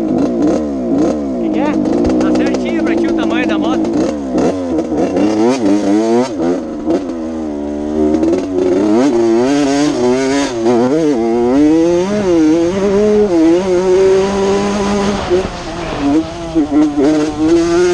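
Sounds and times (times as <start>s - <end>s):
motocross bike engine revving: 0.0s - 17.9s.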